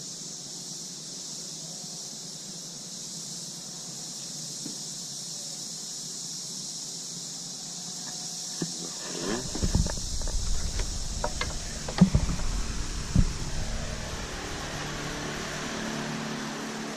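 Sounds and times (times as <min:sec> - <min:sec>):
insects chorus shrill hiss: 0:00.0 - 0:16.9.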